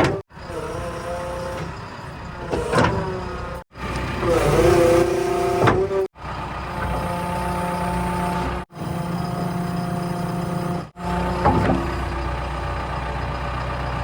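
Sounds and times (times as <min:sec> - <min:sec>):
heavy machinery diesel engines droning: 0:00.0 - 0:14.0.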